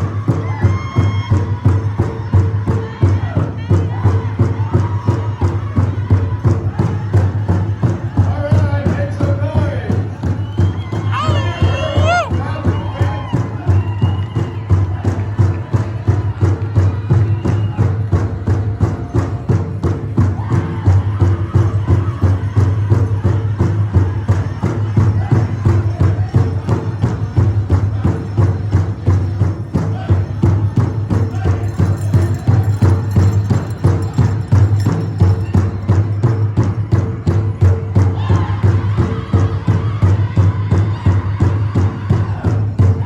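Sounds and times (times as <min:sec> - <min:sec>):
big drum beating: 0:00.0 - 0:43.0
singers' voices: 0:00.0 - 0:43.0.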